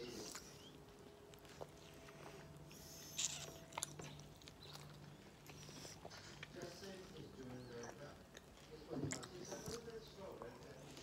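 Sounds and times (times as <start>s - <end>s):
chewing and lip smacks: 0.1s - 11.0s.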